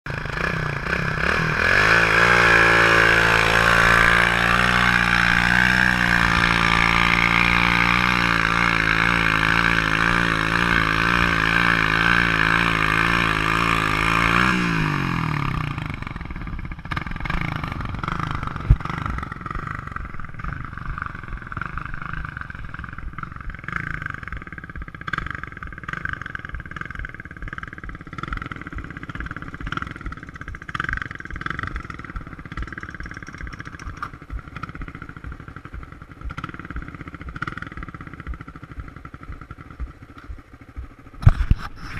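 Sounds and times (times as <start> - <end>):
dirt bike engines running: 0.1 - 41.9.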